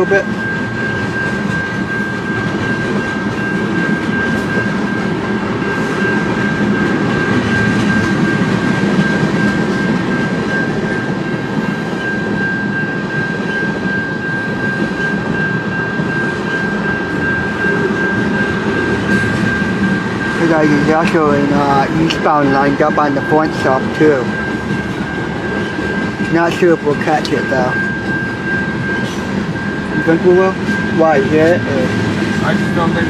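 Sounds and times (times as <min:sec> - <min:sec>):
freight train wheels rumbling: 0:00.0 - 0:33.0
high ringing tone: 0:00.0 - 0:33.0.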